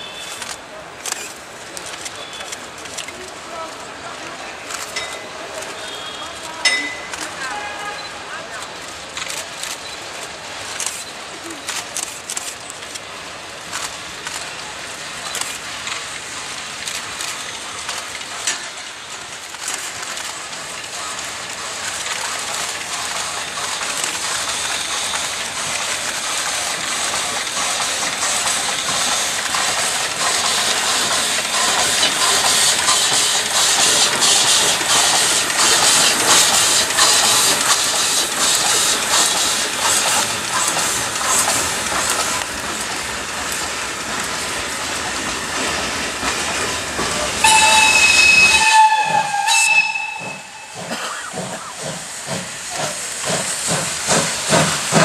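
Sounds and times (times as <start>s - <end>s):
steam locomotive passing: 0.0s - 55.0s.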